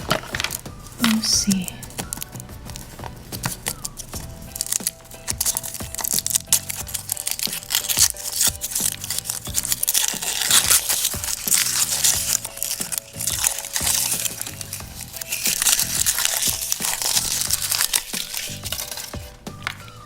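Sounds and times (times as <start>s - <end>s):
background music with steady beat: 0.0s - 20.0s
packaging crinkling and tearing: 0.0s - 20.0s.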